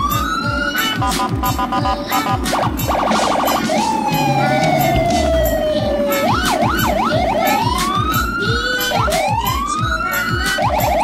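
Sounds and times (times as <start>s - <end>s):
siren wailing and yelping: 0.0s - 11.0s
backing track with drum beat: 0.9s - 9.8s.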